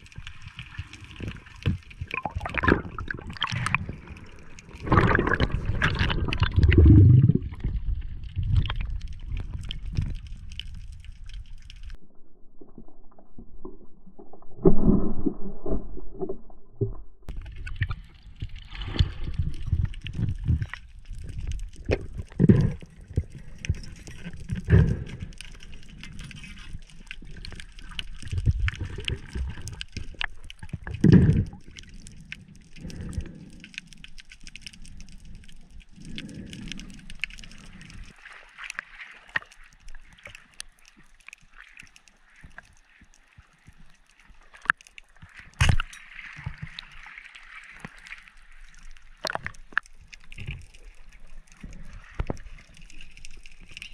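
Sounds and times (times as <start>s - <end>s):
faint crackle: 0.0s - 53.9s
water rumbling underwater: 0.0s - 53.9s.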